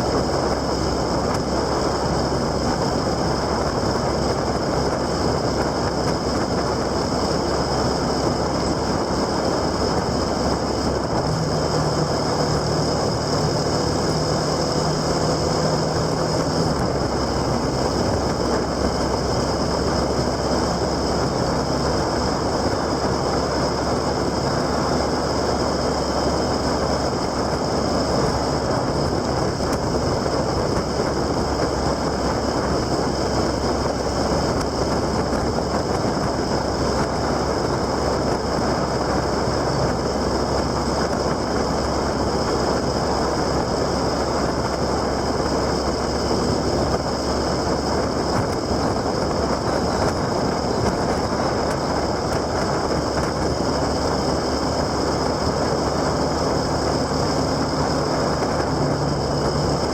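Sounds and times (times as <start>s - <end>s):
low engine-like hum: 0.0s - 59.9s
wind and road noise: 0.0s - 59.9s.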